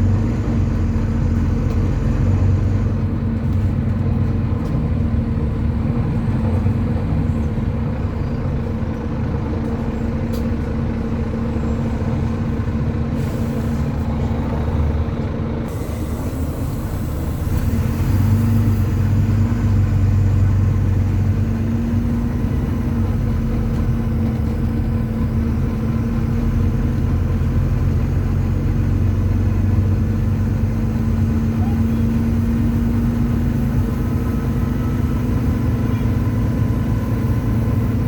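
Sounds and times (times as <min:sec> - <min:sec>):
bus diesel engine drone: 0:00.0 - 0:38.0.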